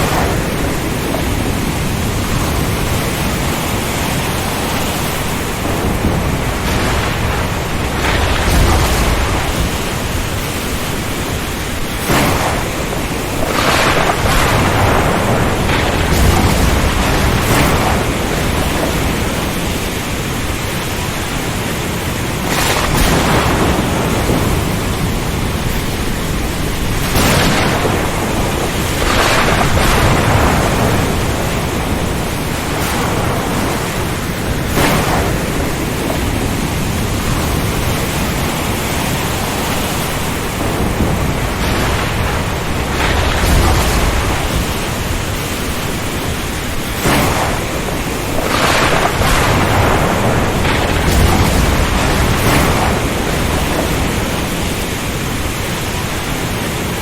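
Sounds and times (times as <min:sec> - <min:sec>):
heavy rain: 0:00.0 - 0:57.0
low rumbles of thunder: 0:00.0 - 0:57.0
sea surging: 0:00.0 - 0:57.0
wind: 0:00.0 - 0:57.0.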